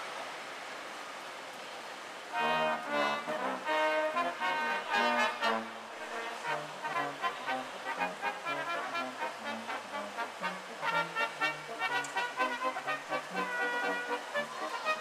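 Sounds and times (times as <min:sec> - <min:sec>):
background noise: 0:00.0 - 0:15.0
brass band playing: 0:02.3 - 0:15.0.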